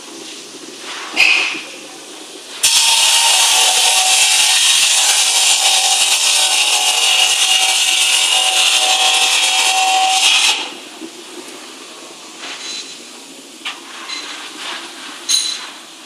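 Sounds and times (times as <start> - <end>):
faint machine hum: 0.0 - 16.0
machinery loud steady hiss: 0.0 - 16.0.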